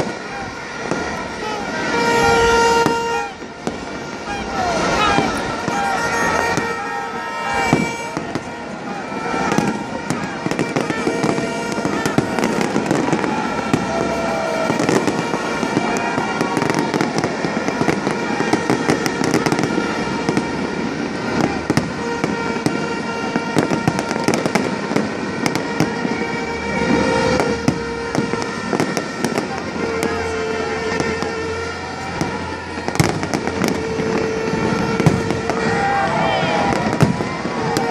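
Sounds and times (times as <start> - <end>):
crowd voices: 0.0 - 37.9
fireworks bursting and crackling: 0.0 - 37.9.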